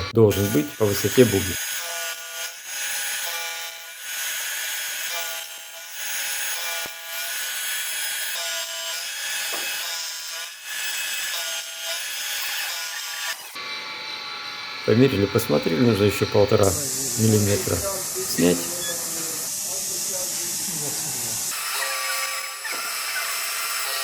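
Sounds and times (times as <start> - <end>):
machine tool cutting metal: 0.0 - 24.0.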